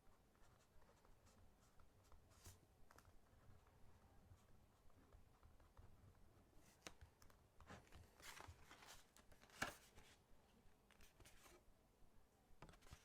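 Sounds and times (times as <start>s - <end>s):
pen and notebook rustling: 0.3s - 10.2s, 10.9s - 11.6s, 12.6s - 13.0s.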